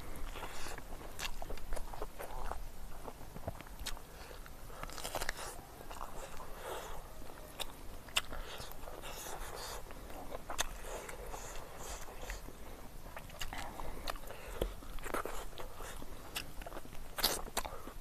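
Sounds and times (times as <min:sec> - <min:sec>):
person chewing meat: 0:00.0 - 0:18.0.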